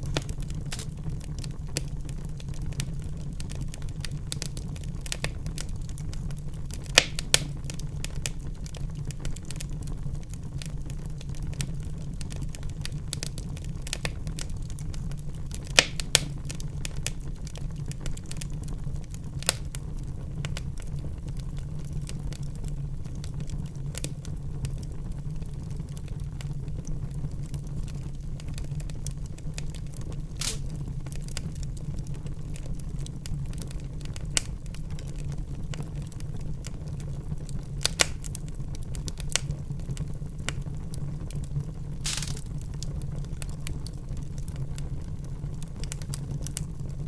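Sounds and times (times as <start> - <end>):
sharp pops from fire: 0.0 - 20.9, 26.1 - 46.7
wood fire crackling: 0.0 - 47.0.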